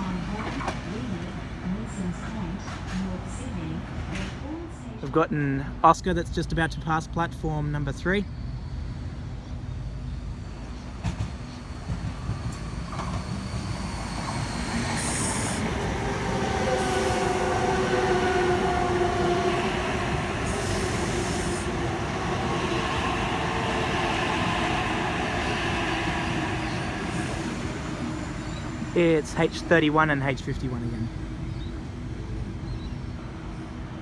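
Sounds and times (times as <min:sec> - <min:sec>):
electric train passing: 0:00.0 - 0:34.0.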